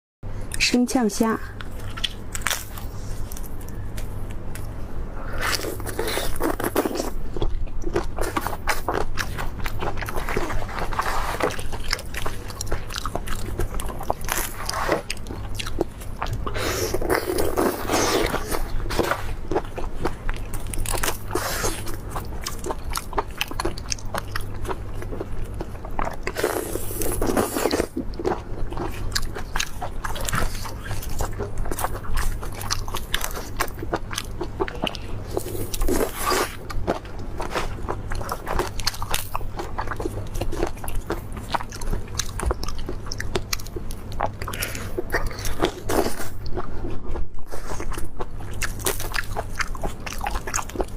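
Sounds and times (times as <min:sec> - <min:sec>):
low steady hum: 0:00.2 - 0:50.9
crunchy chewing: 0:05.3 - 0:50.9.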